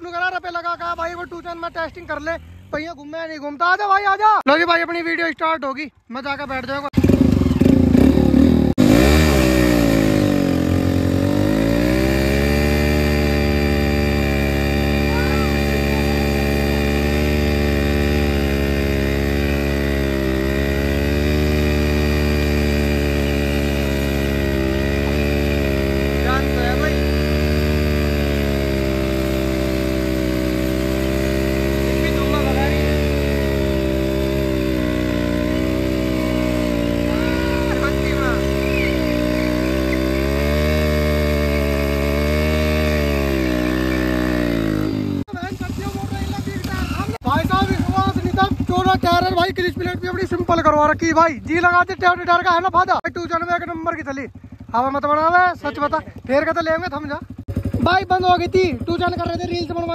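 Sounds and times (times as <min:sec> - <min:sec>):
motorcycle engines at high revs: 0:00.0 - 0:59.9.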